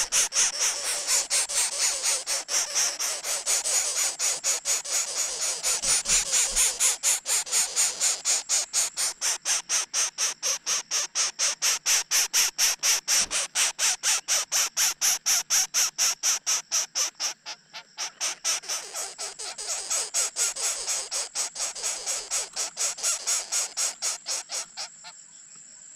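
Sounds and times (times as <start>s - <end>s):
nestlings begging with rasping calls: 0.0s - 25.2s.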